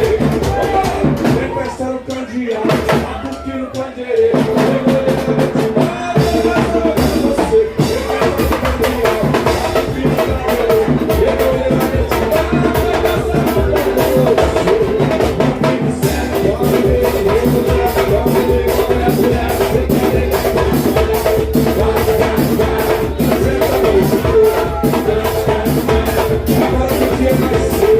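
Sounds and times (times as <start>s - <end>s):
drums and hand percussion: 0.0s - 27.9s
person singing: 0.0s - 27.9s.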